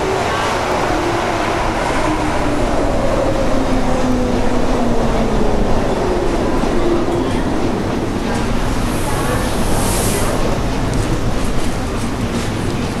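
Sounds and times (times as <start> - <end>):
metro train braking: 0.0 - 12.4
wheels rumbling on rails: 0.0 - 13.0.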